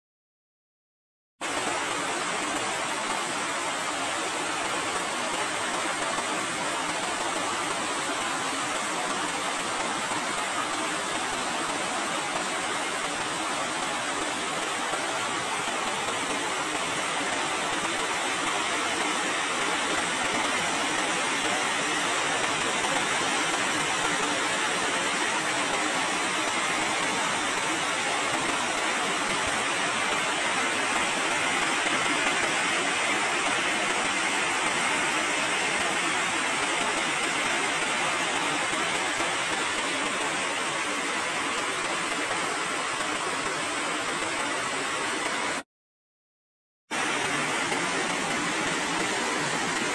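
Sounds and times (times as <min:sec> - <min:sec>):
rain on metal roofs: 0:01.4 - 0:45.6, 0:46.9 - 0:49.9.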